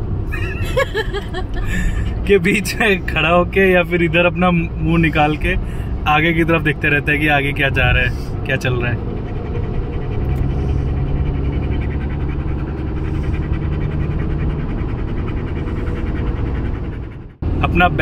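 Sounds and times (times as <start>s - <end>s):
car driving rumble: 0.0s - 18.0s
dog panting: 0.4s - 18.0s.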